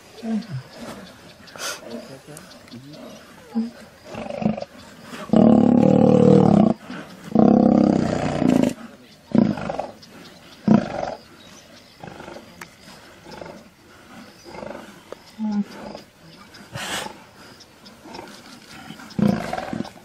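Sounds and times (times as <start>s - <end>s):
lions growling: 0.0s - 20.0s
lion grunts: 0.2s - 20.0s.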